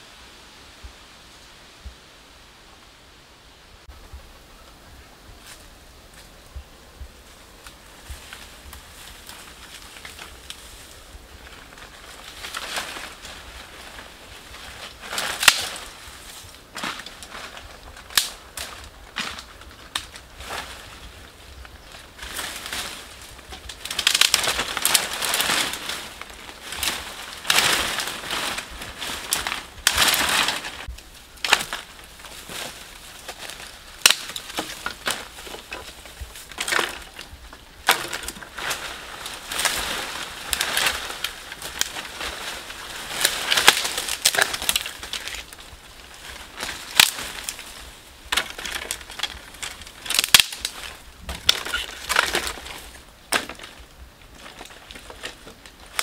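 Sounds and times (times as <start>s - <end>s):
dry sticks and leaves crunching: 4.6s - 56.0s
branches snapping: 7.6s - 56.0s.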